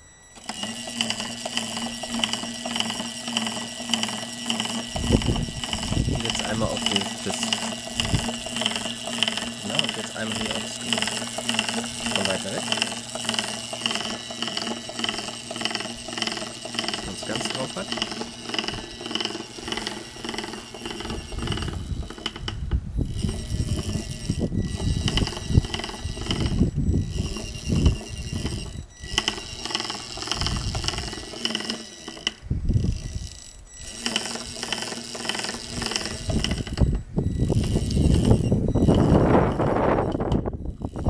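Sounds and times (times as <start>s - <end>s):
electric motor whining: 0.0s - 41.0s.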